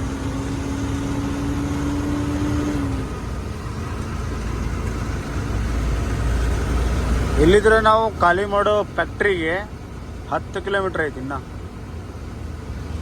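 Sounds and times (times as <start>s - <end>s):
road noise inside cab: 0.0s - 13.0s
truck engine rumble: 0.0s - 13.0s.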